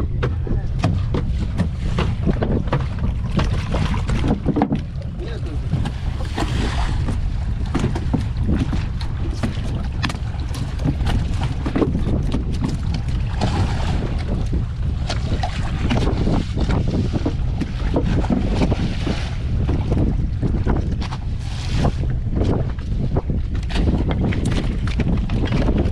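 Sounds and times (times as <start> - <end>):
sea water splashing: 0.0 - 25.9
wind rumbling on microphone: 0.0 - 25.9
fish knocking and slapping on deck: 0.2 - 21.2.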